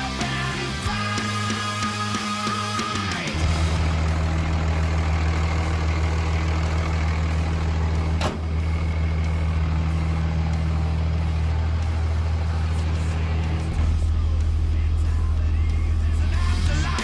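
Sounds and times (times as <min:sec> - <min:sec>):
diesel engine idling: 0:02.9 - 0:17.0.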